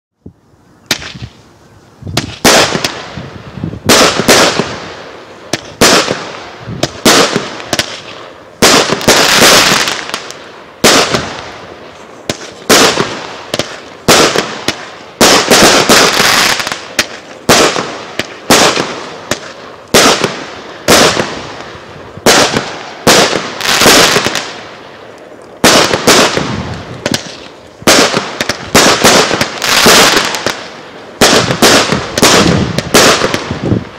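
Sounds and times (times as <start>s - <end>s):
fireworks crackle: 0.2s - 33.9s
fireworks bangs: 0.8s - 33.9s.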